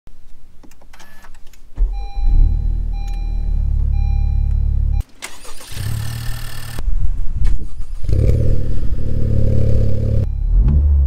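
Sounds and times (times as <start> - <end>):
car engine starting and running: 1.8 - 11.0.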